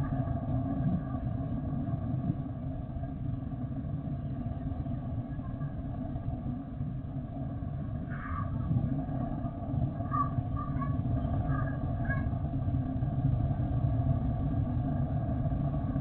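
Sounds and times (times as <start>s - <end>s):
faint whining tones: 0.0s - 16.0s.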